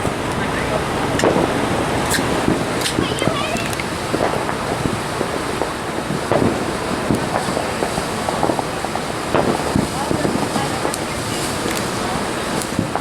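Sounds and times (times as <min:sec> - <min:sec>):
wind rushing on microphone: 0:00.0 - 0:13.0.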